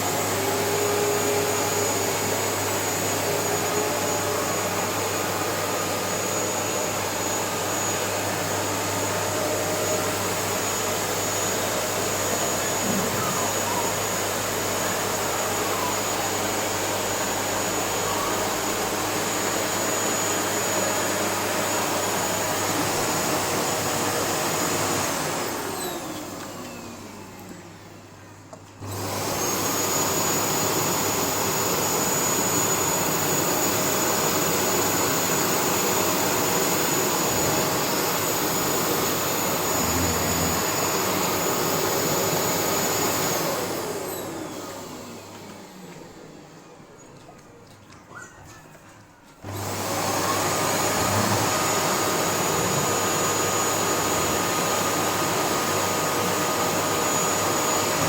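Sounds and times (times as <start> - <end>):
vacuum cleaner whining: 0.0 - 58.0.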